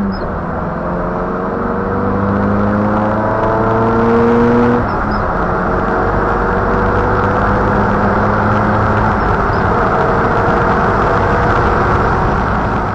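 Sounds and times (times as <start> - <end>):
loud road rumble in car cabin: 0.0 - 12.9.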